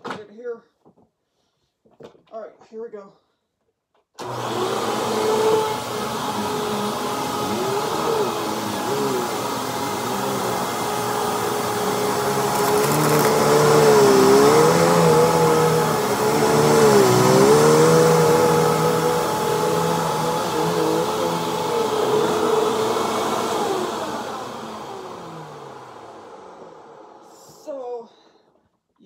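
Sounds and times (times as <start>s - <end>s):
vacuum cleaner motor running: 4.2s - 27.8s.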